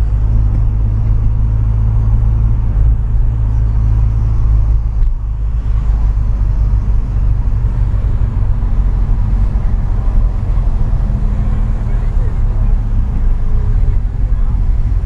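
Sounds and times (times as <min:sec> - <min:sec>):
car engine under load: 0:00.0 - 0:15.0.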